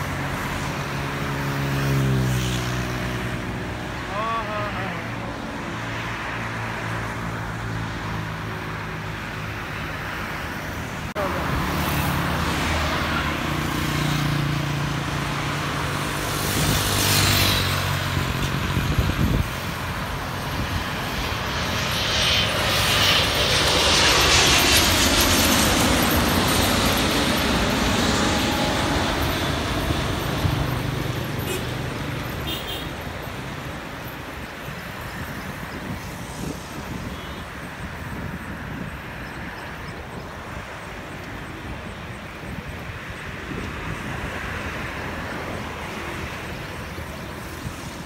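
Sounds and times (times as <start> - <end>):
distant jet engines roaring: 0.0 - 48.0.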